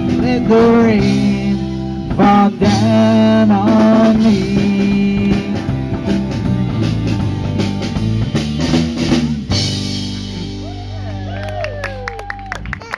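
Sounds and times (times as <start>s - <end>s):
drum kit: 0.0s - 12.9s
rock band playing: 0.0s - 12.9s.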